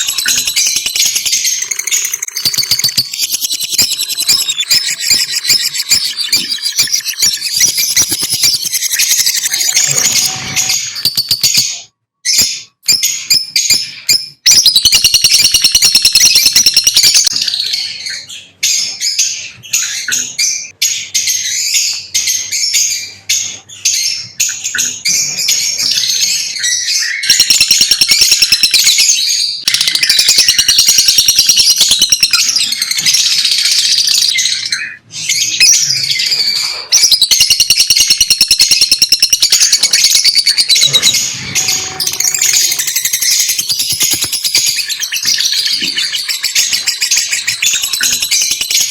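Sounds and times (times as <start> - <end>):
parrots chirping and chattering: 0.0 - 48.9.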